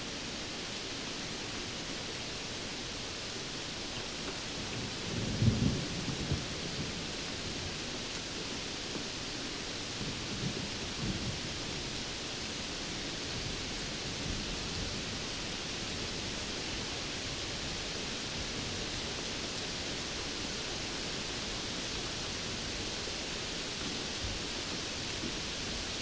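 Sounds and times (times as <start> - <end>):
steady rainfall hiss: 0.0 - 26.0.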